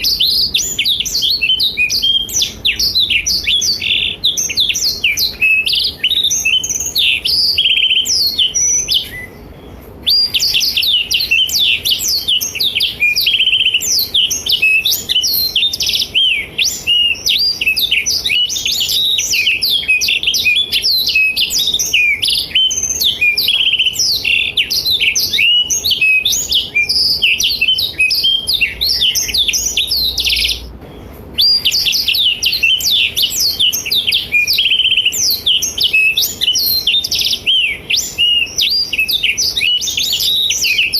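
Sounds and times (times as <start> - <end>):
canary twittering and trilling: 0.0 - 40.9.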